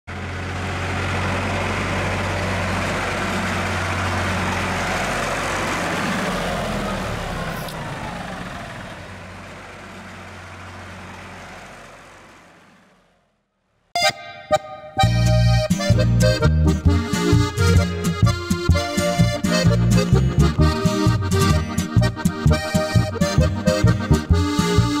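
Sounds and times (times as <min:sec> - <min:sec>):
tractor diesel engine driving past: 0:00.1 - 0:25.0.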